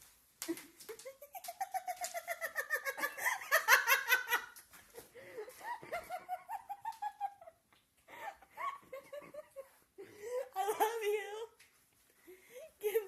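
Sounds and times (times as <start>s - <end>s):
person giggling: 0.5s - 11.0s.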